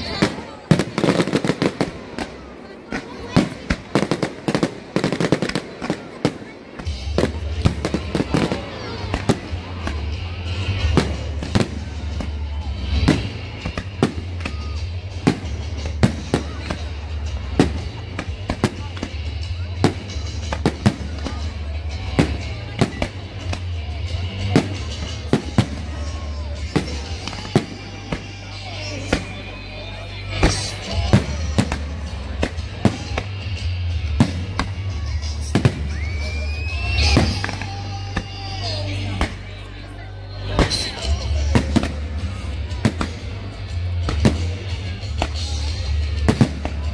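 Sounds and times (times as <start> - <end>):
fireworks bursting: 0.0 - 39.8, 40.4 - 46.9
music with low bass: 7.0 - 46.9.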